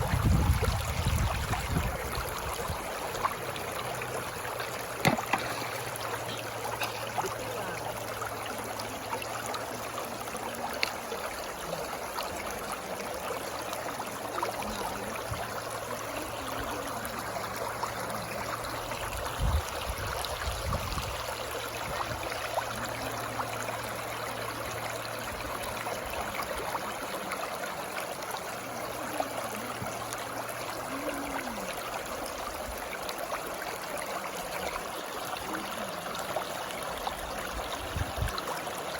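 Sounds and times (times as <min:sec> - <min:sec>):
water flowing and gurgling: 0:00.0 - 0:38.9.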